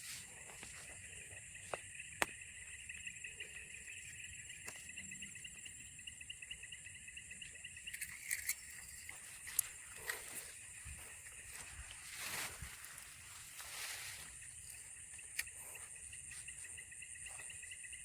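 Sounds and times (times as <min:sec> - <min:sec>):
high continuous buzz: 0:00.0 - 0:18.0
insects chirring: 0:00.0 - 0:18.0.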